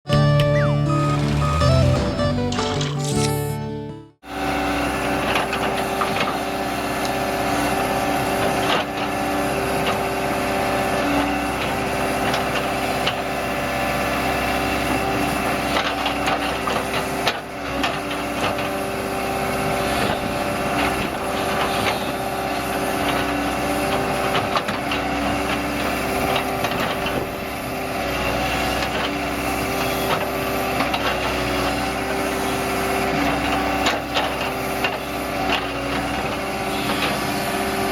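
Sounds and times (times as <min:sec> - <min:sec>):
excavator diesel engine running: 0:00.1 - 0:37.9.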